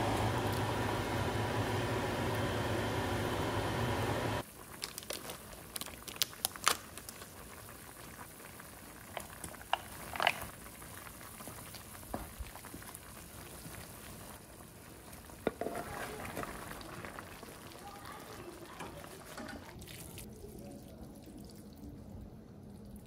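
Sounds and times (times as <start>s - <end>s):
food simmering in a pan: 4.4s - 23.0s.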